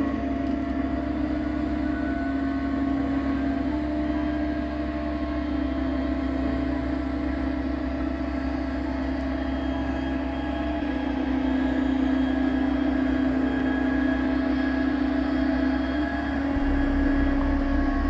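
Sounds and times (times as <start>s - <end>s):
model locomotive electric hum: 0.0s - 18.0s.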